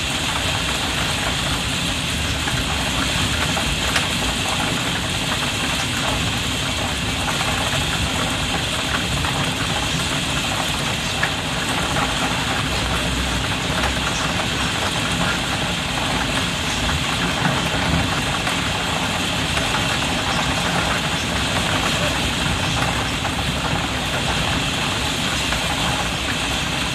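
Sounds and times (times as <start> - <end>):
rain drumming on a skylight: 0.0 - 26.9.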